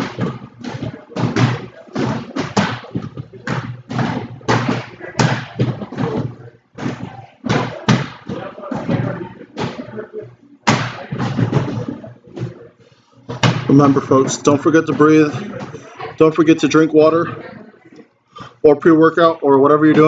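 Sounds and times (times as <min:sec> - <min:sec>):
indistinct voices talking: 0:00.0 - 0:20.0.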